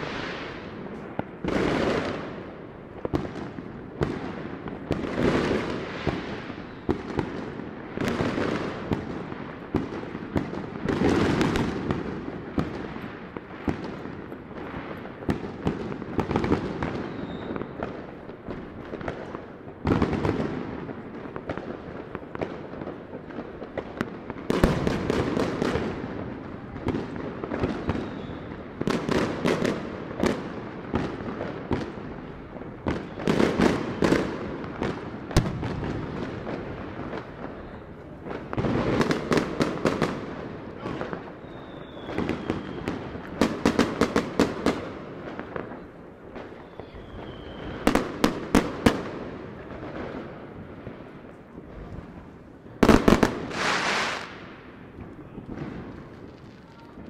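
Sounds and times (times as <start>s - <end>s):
firecrackers crackling: 0.0s - 57.0s
fireworks booming: 0.0s - 57.0s.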